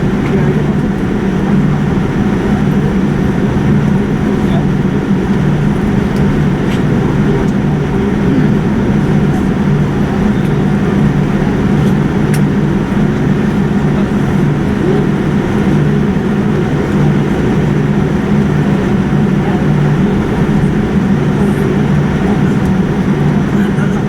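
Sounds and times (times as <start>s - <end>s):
vehicle cabin rumble and hum: 0.0s - 24.0s.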